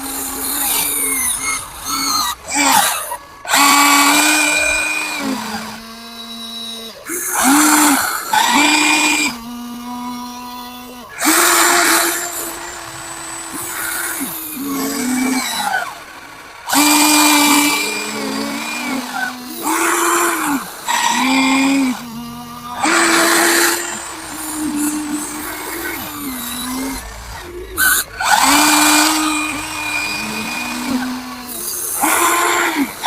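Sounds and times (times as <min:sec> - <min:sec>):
electric motors whining: 0:00.0 - 0:33.0.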